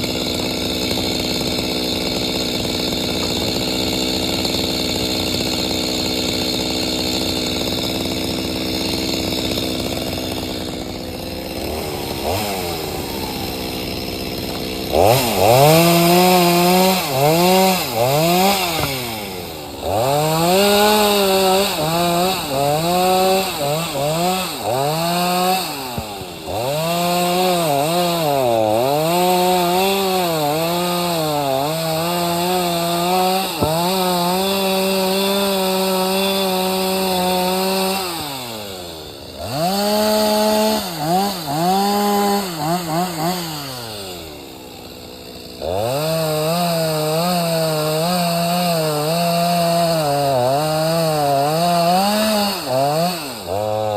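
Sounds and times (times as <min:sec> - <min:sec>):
chainsaw cutting logs: 0:00.0 - 0:53.9.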